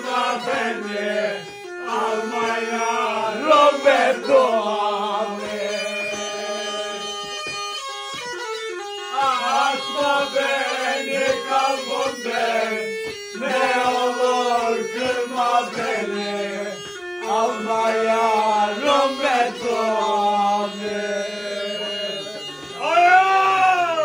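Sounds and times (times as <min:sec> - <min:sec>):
person singing ornamented melody: 0:00.0 - 0:07.5, 0:09.1 - 0:23.2
steady held drone: 0:00.0 - 0:22.8.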